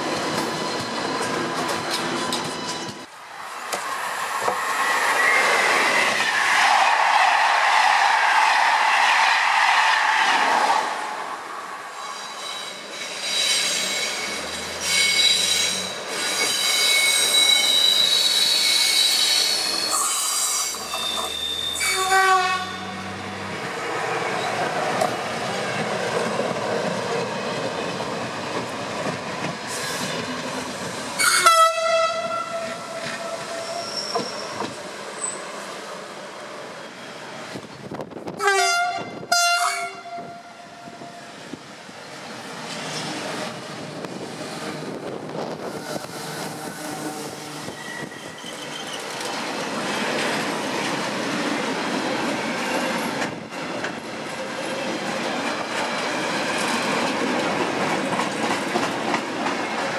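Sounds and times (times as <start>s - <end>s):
electric train passing: 0.0s - 38.4s, 39.2s - 59.9s.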